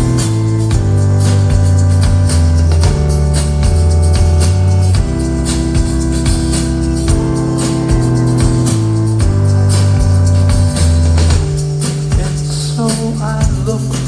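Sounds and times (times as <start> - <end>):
drums with cymbal strokes: 0.0 - 14.0
held bass notes: 0.0 - 14.0
keyboard chords: 0.0 - 14.0.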